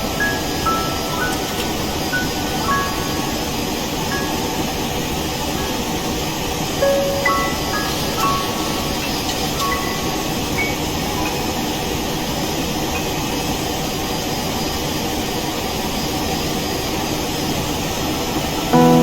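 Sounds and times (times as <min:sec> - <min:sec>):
airplane cabin engine and airflow noise: 0:00.0 - 0:19.0.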